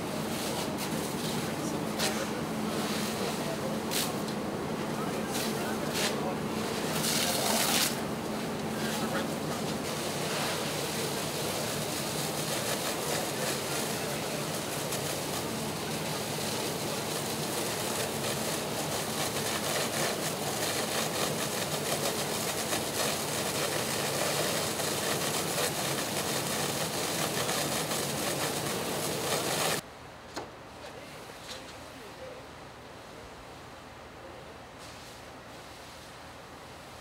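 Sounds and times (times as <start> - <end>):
fire engine running: 0.0 - 29.8
hose spraying water: 0.0 - 29.8.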